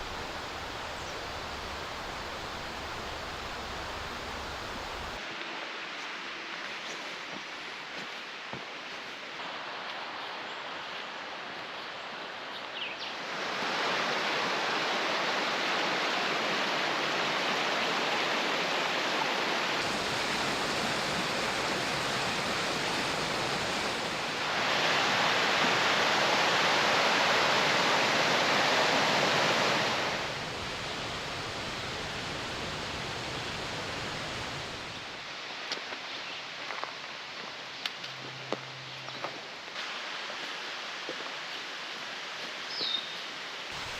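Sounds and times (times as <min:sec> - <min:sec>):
stream water rushing: 0:00.0 - 0:36.0, 0:39.5 - 0:43.9.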